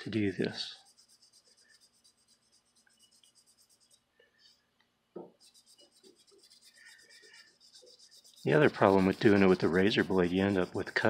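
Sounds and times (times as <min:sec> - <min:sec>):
sandpaper scratching strokes: 0:00.0 - 0:04.6, 0:05.4 - 0:11.0.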